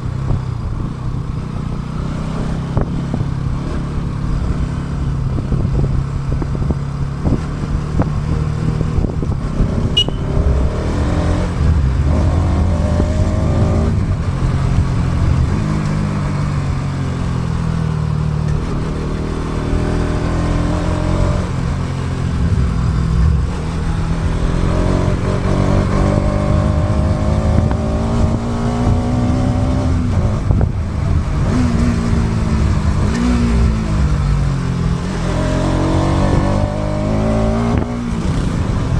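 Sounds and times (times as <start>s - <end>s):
road and air noise: 0.0s - 38.9s
motorcycle engine revving: 1.0s - 38.9s.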